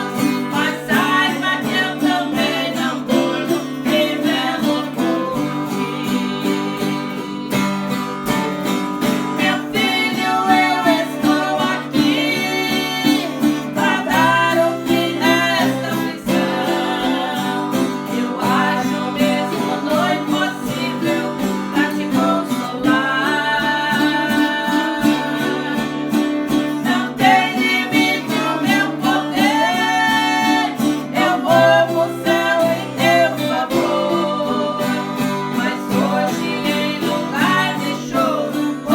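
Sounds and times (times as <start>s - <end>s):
acoustic guitar strumming: 0.0s - 38.9s
voices singing a praise song: 0.0s - 38.9s.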